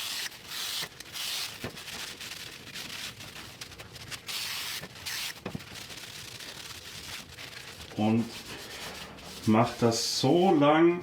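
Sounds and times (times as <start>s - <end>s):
cloth rubbing: 0.0s - 10.7s.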